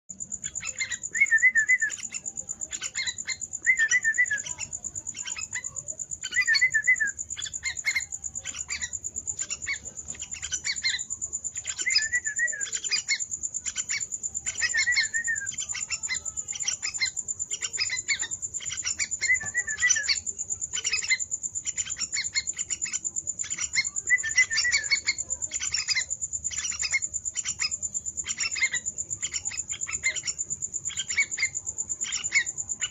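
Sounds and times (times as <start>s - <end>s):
bird chicks chirping: 0.1s - 32.9s.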